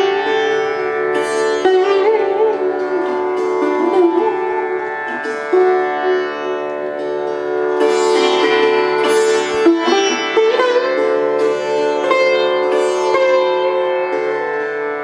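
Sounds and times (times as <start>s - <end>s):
sitar playing: 0.0s - 15.0s.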